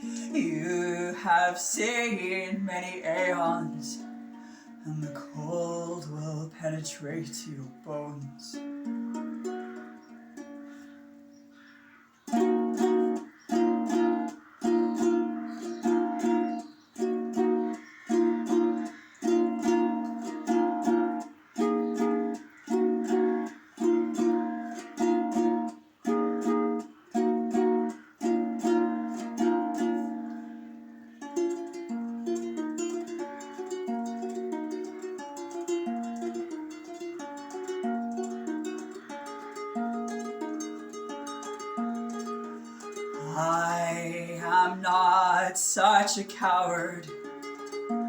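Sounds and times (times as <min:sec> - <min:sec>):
ukulele picked notes: 0:00.0 - 0:11.5, 0:12.3 - 0:48.0
ukulele strummed chords: 0:00.0 - 0:11.6, 0:12.3 - 0:48.0.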